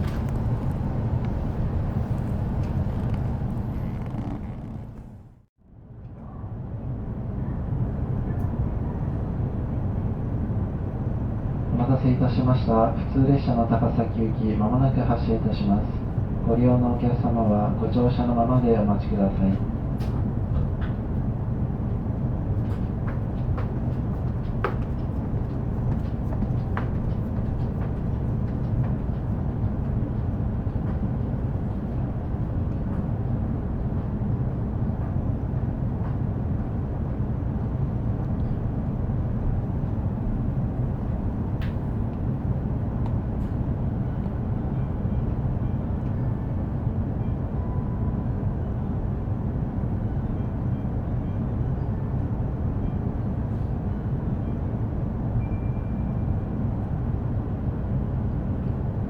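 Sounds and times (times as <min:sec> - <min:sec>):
train running rumble: 0:00.0 - 0:05.4, 0:06.6 - 0:59.0.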